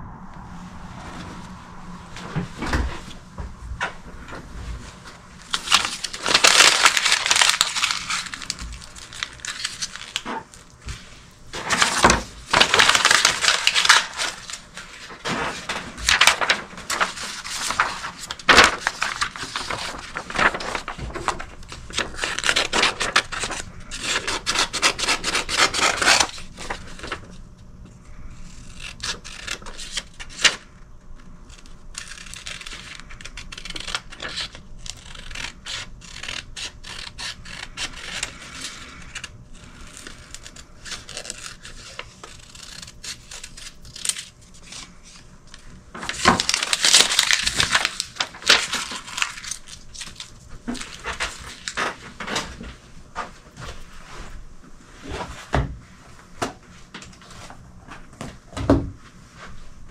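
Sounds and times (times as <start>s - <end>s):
crackling and rustling of crumpling: 2.2s - 59.6s.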